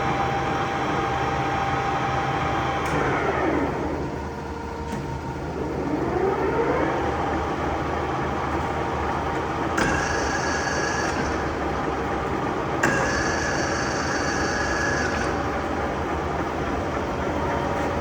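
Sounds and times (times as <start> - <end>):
lathe gear whine: 0.0 - 18.0.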